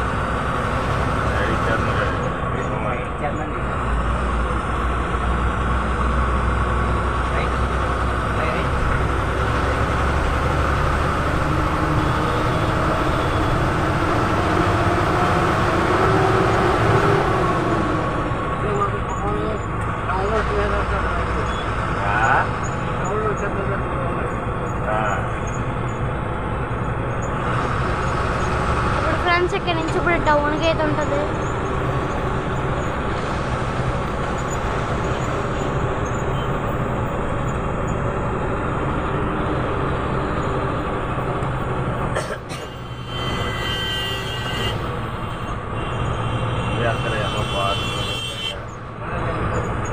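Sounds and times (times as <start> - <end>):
bus engine running: 0.0 - 46.4
road noise: 0.0 - 49.9.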